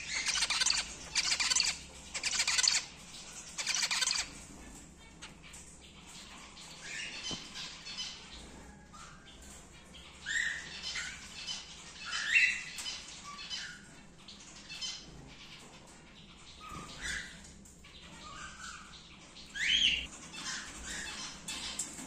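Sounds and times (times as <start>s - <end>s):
cockatiels calling: 0.0s - 22.0s.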